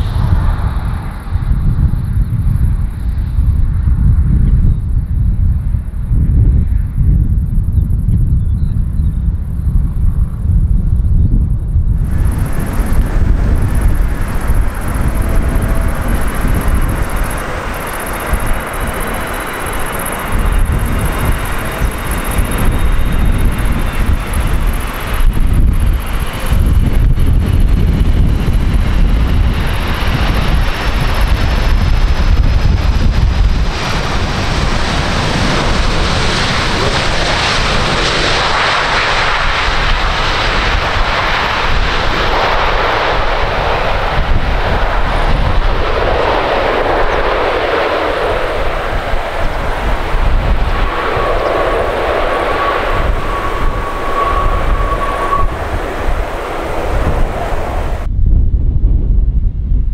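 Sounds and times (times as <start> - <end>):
jet engines roaring: 0.0 - 8.2, 11.6 - 58.1
high jet engine whine: 0.0 - 58.2
wind buffeting microphone: 0.0 - 59.9.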